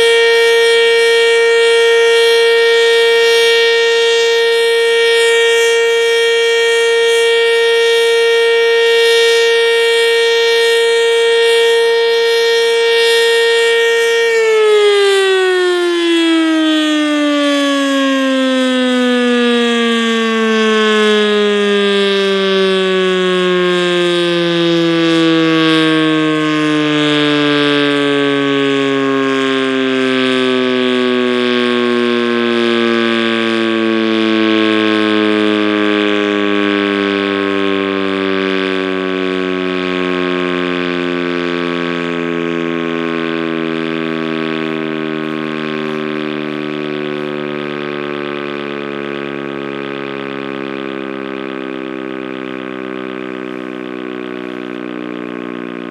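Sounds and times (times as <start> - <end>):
warning siren winding down: 0.0 - 55.9.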